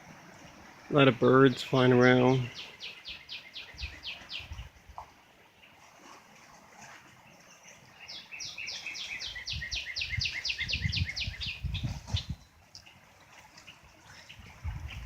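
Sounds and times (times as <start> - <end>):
songbird singing: 0.9 - 5.8, 7.2 - 15.0.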